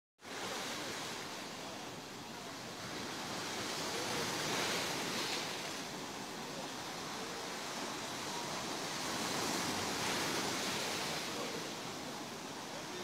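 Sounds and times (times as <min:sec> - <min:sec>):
sea surf washing onto beach: 0:00.2 - 0:13.0.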